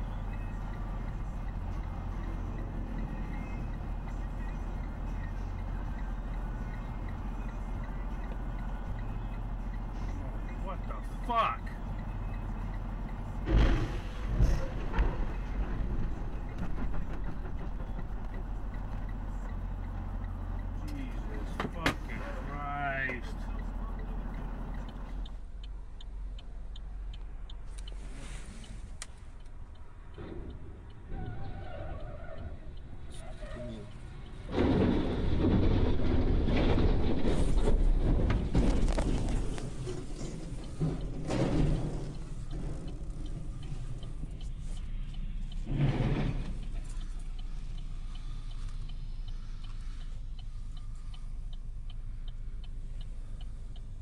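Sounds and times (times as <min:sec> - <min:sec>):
light regular ticking: 0:00.0 - 0:14.4, 0:15.2 - 0:35.7, 0:38.0 - 0:54.0
low vehicle rumble: 0:00.0 - 0:54.0.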